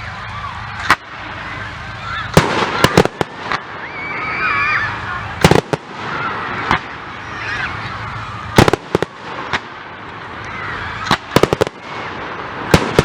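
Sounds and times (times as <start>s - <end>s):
fireworks bursting: 0.0s - 13.0s
murmur of crowd voices: 0.0s - 13.0s.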